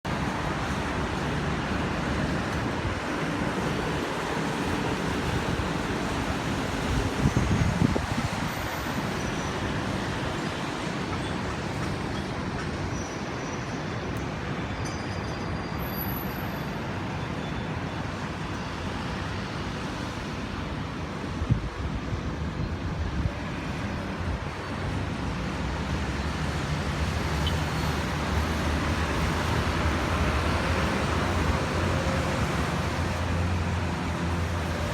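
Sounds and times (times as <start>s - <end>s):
tyres on wet road: 0.1s - 34.9s.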